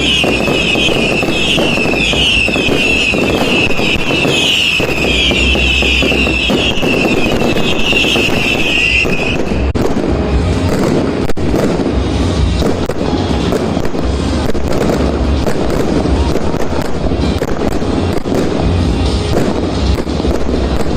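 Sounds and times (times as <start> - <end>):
fireworks crackling: 0.0 - 20.9
music with deep bass: 0.0 - 20.9
sharp firecracker bangs: 0.0 - 20.9.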